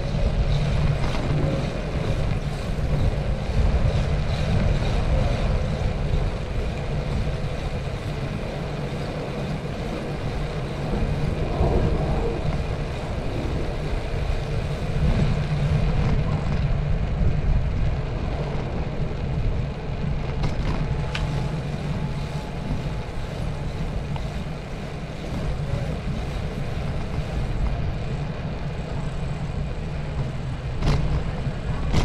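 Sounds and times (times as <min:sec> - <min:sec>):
bicycle rattles: 0:00.0 - 0:32.0
wind and road rumble: 0:00.0 - 0:32.0.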